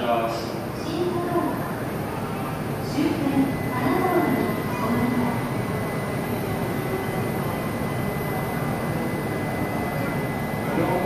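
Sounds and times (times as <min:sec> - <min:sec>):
thin high whine: 0:00.0 - 0:11.0
train whooshing hum: 0:00.0 - 0:11.0.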